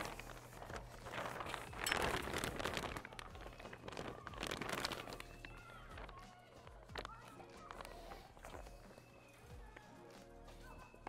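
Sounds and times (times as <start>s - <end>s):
plastic film crinkling: 0.0s - 9.1s.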